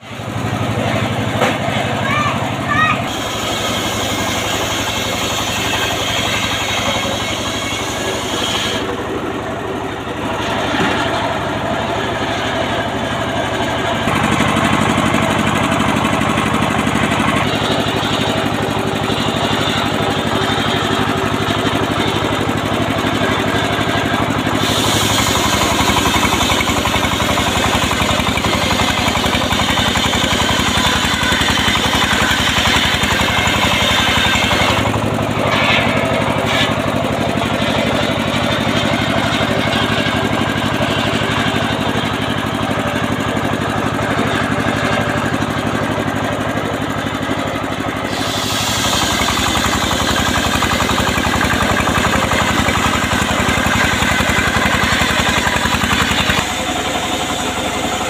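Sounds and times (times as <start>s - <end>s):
engine pulsing: 0.0s - 58.0s
saw blade cutting log: 0.0s - 58.0s.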